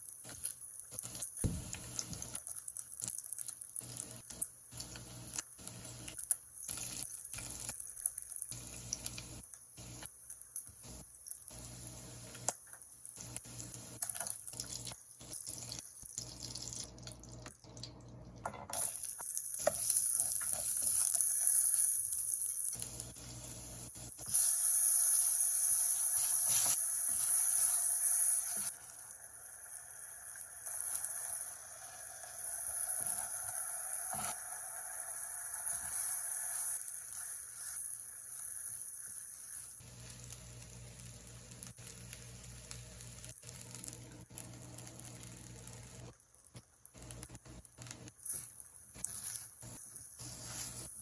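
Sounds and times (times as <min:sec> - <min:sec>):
food sizzling in frying pan: 0:00.0 - 0:17.5, 0:18.4 - 0:51.0.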